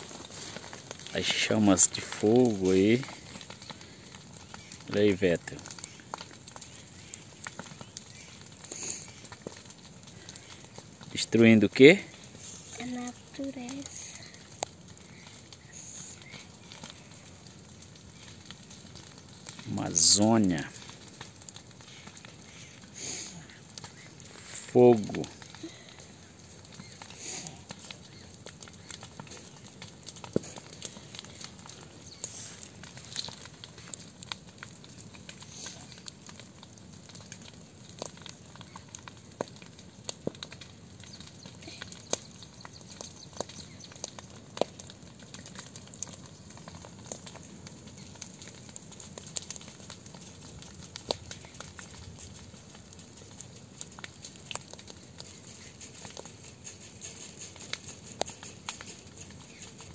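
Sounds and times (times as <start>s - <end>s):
brush fire crackling: 0.0s - 59.9s.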